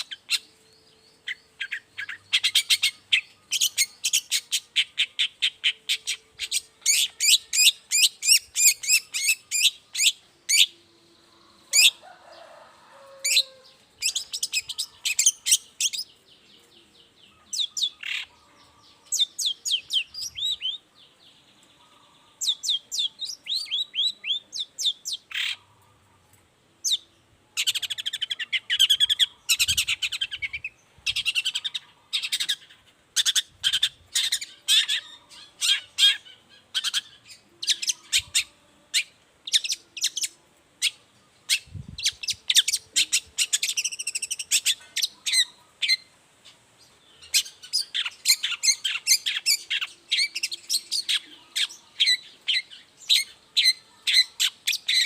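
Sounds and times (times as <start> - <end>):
bird chattering song: 0.0 - 12.0, 13.3 - 26.1, 26.8 - 55.0.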